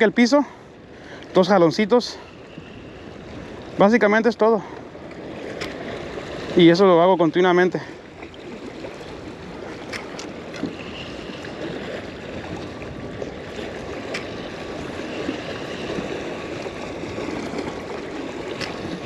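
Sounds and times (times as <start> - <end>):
small waves lapping against boulders: 0.0 - 19.0.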